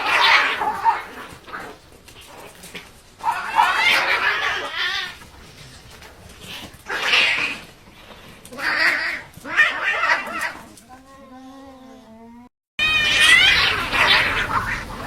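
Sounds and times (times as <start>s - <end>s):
cats yowling in a fight: 0.0s - 5.3s, 6.4s - 7.8s, 8.5s - 15.0s.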